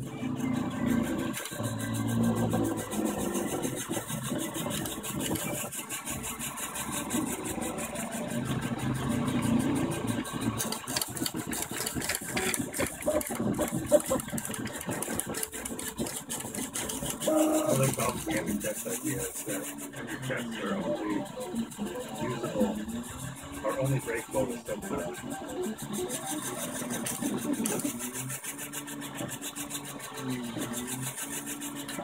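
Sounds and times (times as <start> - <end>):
stepper motors whining: 0.0 - 32.0
small rapid ticks: 0.8 - 32.0.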